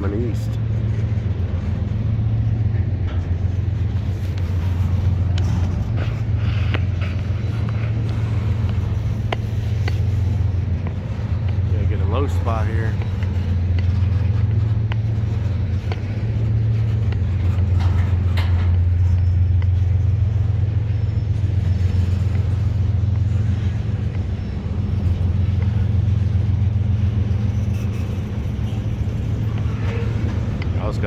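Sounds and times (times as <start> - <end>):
low engine drone: 0.0 - 31.0.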